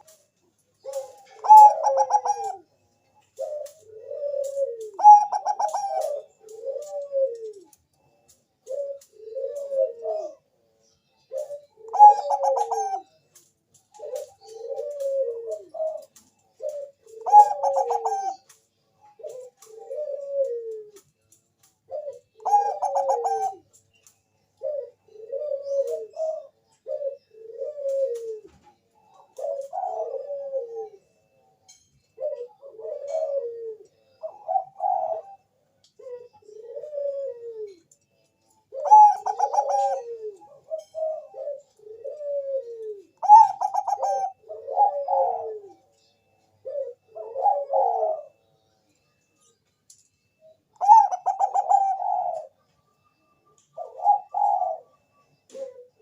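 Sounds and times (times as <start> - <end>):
dove cooing: 0.0 - 49.2, 50.3 - 56.0.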